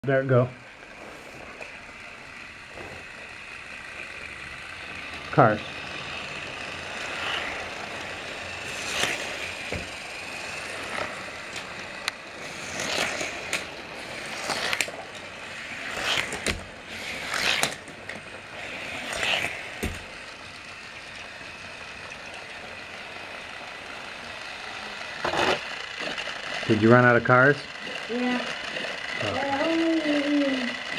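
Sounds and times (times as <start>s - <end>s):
toy train motor whirring: 0.1s - 30.9s.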